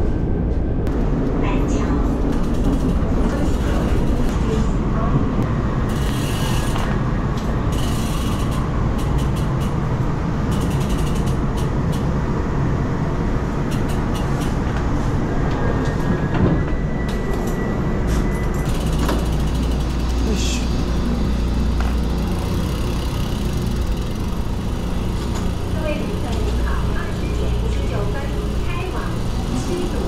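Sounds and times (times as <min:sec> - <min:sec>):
moving vehicle rumble: 0:00.0 - 0:30.0.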